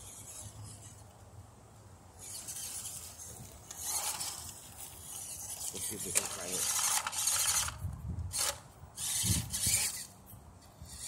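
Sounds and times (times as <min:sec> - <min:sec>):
small electric motor whir: 0:00.0 - 0:01.2, 0:02.2 - 0:11.0.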